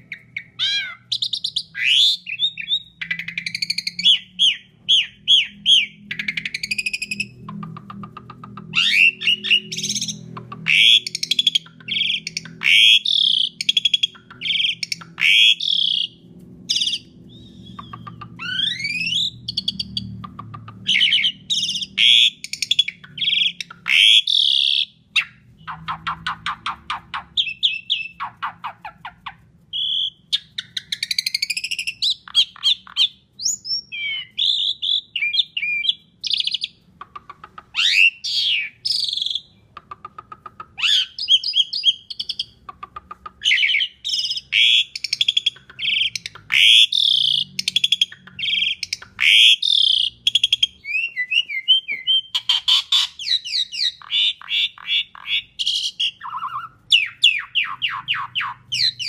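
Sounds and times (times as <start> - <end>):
faint low hum: 0.0 - 59.0
starling singing: 0.0 - 59.0.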